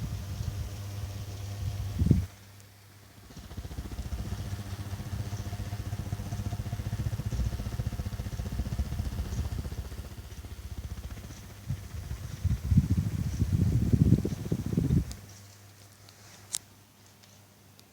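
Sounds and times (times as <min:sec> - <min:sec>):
airflow rumbling on microphone: 0:00.0 - 0:02.3, 0:03.3 - 0:15.3
fan motor hum: 0:00.0 - 0:16.6.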